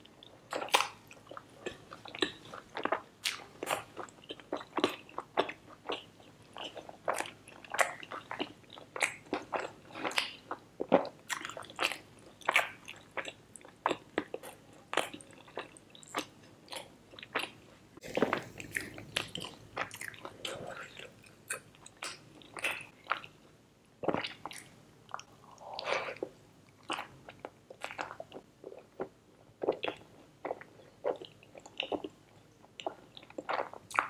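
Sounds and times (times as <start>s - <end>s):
chewing and lip smacking: 0.2s - 34.0s.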